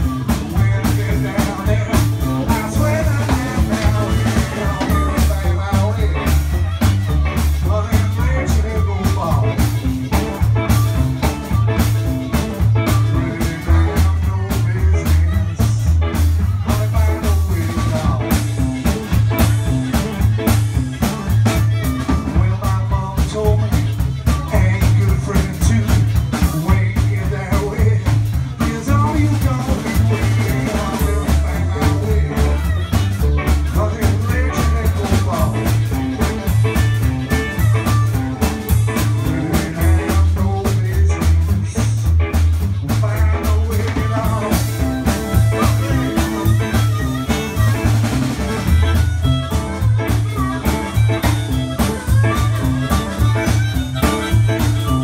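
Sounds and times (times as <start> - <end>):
electric blues band playing: 0.0 - 55.0
harmonica: 0.0 - 55.0.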